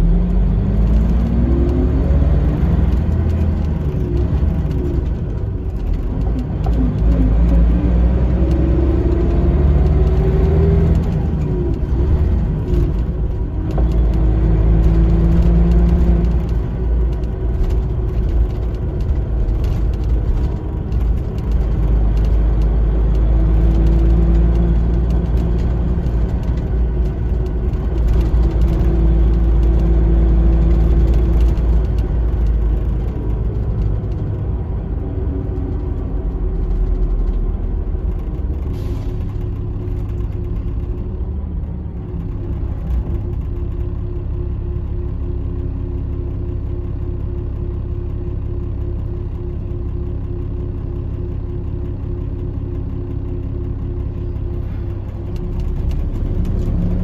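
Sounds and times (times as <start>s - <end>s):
coach diesel engine rumble: 0.0s - 57.0s.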